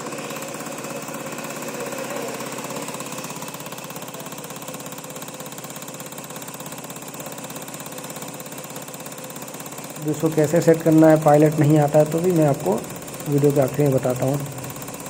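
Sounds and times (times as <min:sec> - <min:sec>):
fast ticking injector rattle: 0:00.0 - 0:15.0
test bench running noise: 0:00.0 - 0:15.0.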